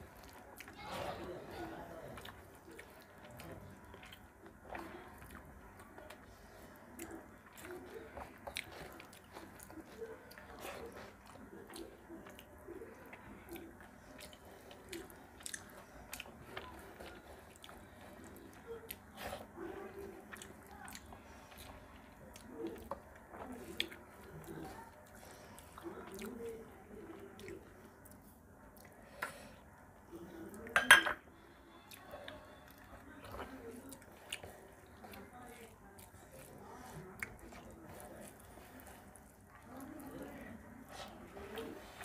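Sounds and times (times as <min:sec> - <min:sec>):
chewing and lip-smacking: 0:00.0 - 0:01.1, 0:01.7 - 0:29.4, 0:31.9 - 0:42.0.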